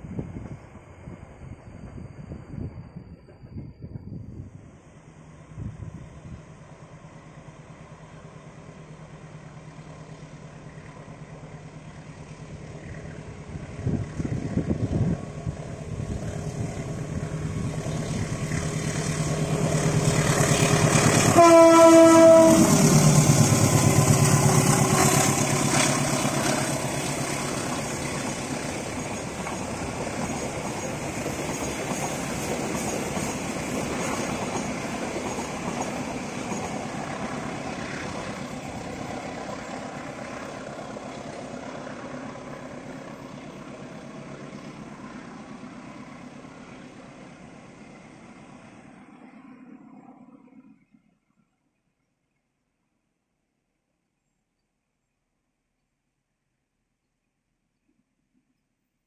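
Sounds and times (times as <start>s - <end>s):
train coaches running on track: 0.0s - 50.8s
diesel locomotive engine drone: 0.0s - 51.8s.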